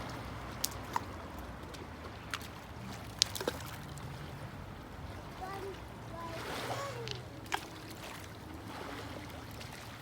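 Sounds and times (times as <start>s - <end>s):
waves washing on a beach: 0.0s - 10.0s.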